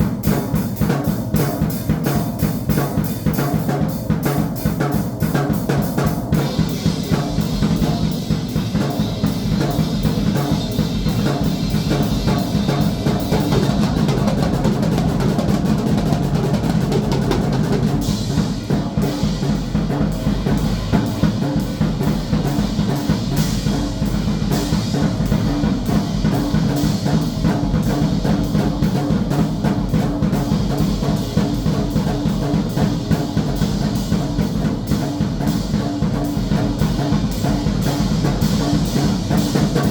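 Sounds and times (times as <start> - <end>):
drum kit playing fast: 0.0 - 39.9.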